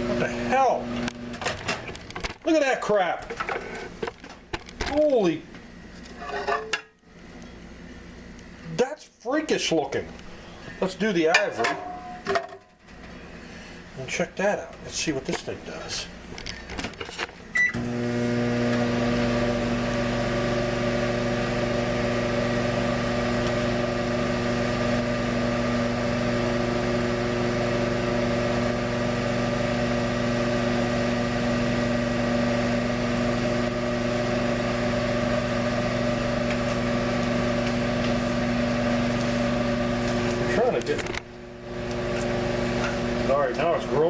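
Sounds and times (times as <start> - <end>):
microwave oven humming: 0.0 - 8.7, 15.8 - 44.0.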